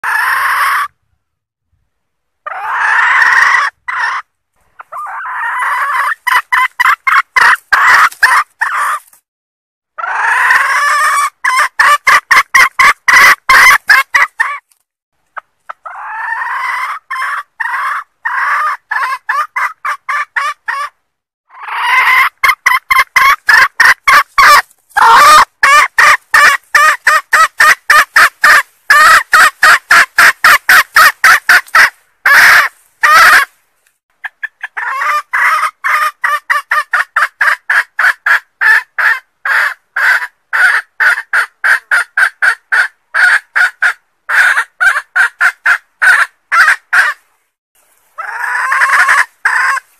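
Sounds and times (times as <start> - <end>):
junglefowl hen cackling: 0.0 - 1.0, 2.4 - 9.1, 10.0 - 14.7, 15.4 - 33.6, 34.2 - 47.2, 48.1 - 49.9.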